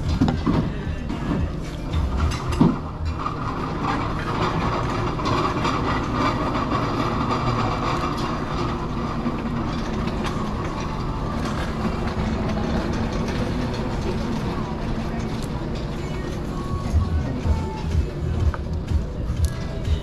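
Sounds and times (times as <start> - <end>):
restaurant background rumble: 0.0 - 20.0.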